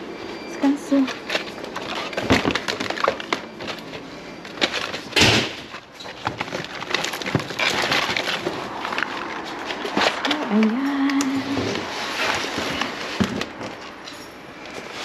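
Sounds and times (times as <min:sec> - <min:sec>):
plastic packaging crinkling: 0:01.1 - 0:13.8.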